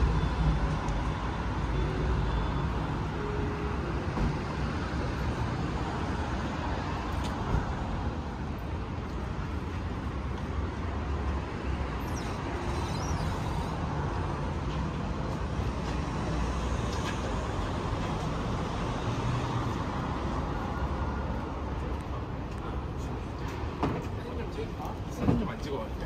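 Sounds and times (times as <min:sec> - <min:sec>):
cars and buses rumbling: 0:00.0 - 0:26.0.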